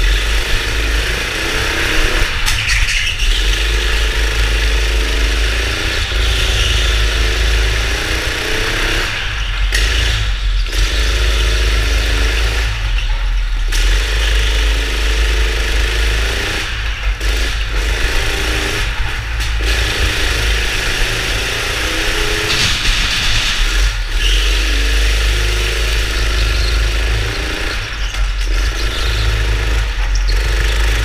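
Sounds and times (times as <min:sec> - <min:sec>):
go-kart engine revving: 0:00.0 - 0:31.0.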